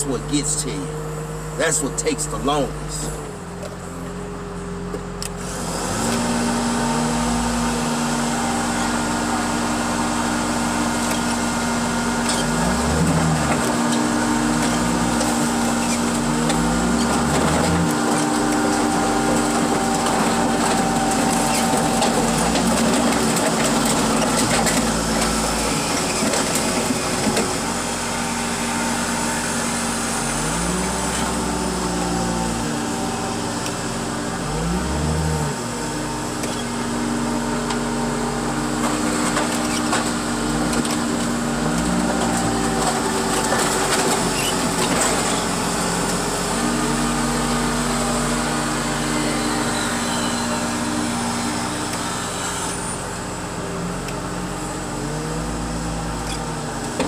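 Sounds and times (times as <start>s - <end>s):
heavy machinery engine under load: 0.0s - 57.0s.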